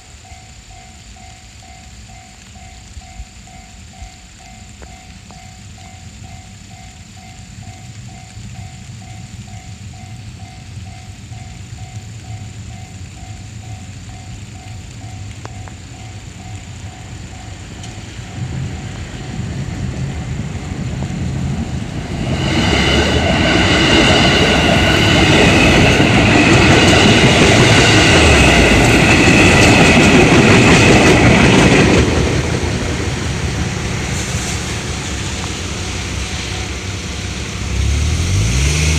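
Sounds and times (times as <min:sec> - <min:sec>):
electric train passing: 0:00.0 - 0:38.9.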